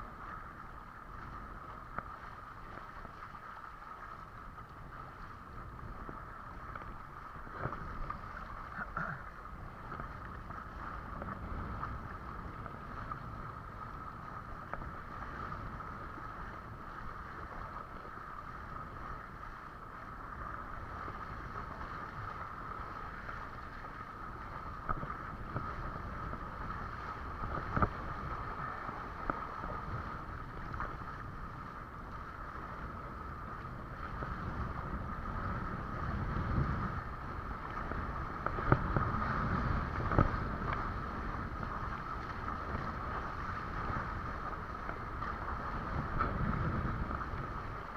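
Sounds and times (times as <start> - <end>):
water rushing under board: 0.0 - 47.9
wind on microphone: 0.0 - 47.9.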